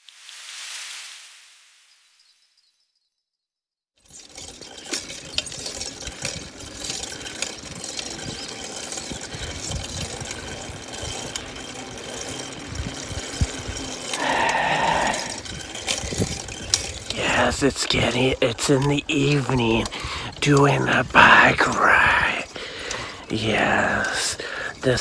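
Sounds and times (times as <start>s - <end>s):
bicycle freewheel ticking: 4.0s - 25.0s
bike frame rattling: 4.0s - 25.0s.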